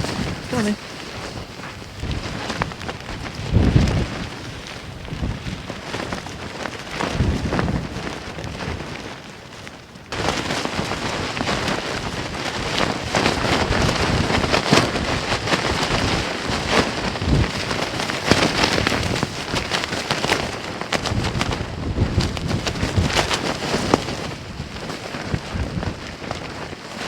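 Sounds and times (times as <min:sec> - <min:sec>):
wind-driven rain on tent: 0:00.0 - 0:27.0.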